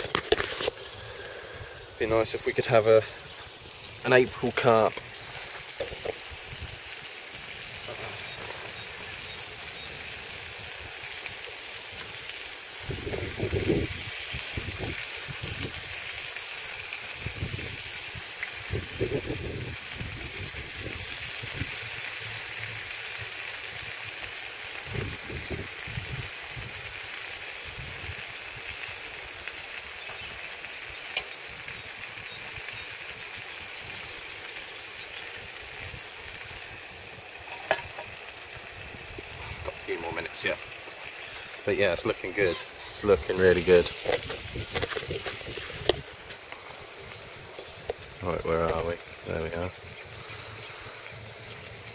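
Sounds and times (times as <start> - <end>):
steaks sizzling in a frying pan: 0.0 - 51.9.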